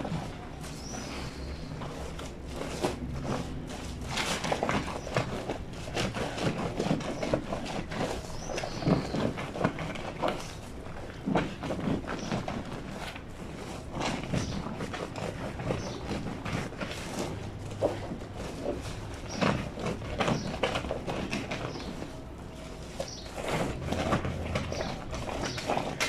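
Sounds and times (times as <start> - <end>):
fabric scrubbed on stone washboard: 0.0 - 26.0.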